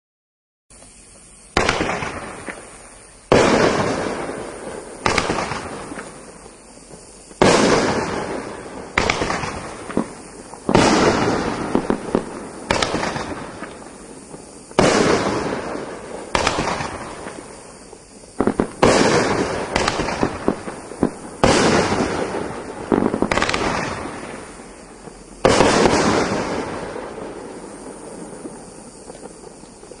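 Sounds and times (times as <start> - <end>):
firework launch thumps: 0.8 - 6.2, 6.9 - 30.0
firework aerial bangs: 1.4 - 30.0.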